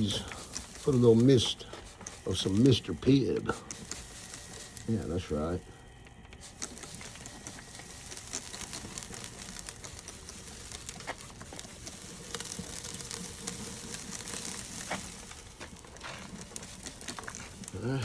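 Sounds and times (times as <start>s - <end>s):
grill sizzling and crackling: 0.0s - 18.0s.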